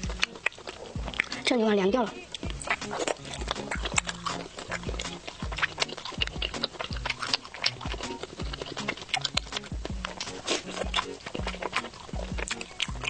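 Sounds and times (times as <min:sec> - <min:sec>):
close chewing mouth clicks: 0:00.0 - 0:13.0
soft background music: 0:00.0 - 0:13.0
low thumps: 0:00.9 - 0:01.4, 0:02.0 - 0:13.0.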